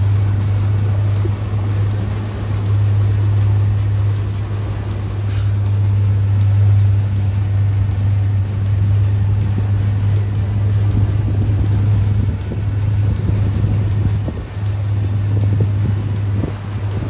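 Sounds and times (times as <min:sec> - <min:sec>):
boat motor droning: 0:00.0 - 0:17.0
wind and water rushing: 0:00.0 - 0:17.0.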